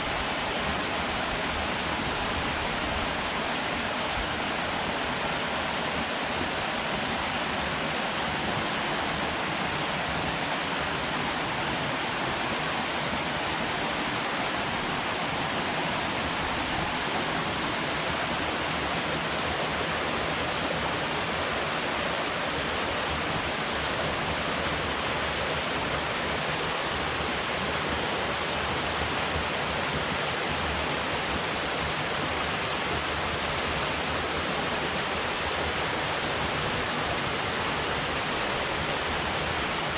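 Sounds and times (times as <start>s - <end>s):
water rushing from spillway: 0.0s - 39.9s.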